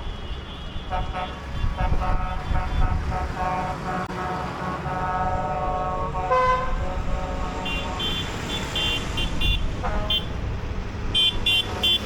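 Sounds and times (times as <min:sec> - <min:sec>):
tractor and truck engines rumbling: 0:00.0 - 0:12.0
vehicle horns tooting: 0:00.1 - 0:10.4, 0:11.1 - 0:12.0.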